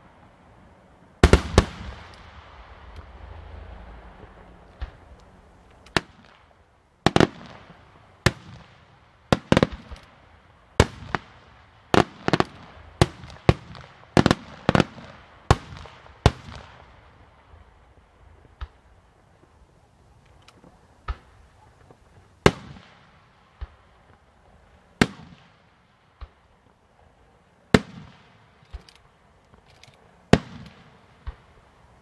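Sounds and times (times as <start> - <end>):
fireworks bursting with sharp bangs: 1.2 - 28.7, 30.3 - 32.0.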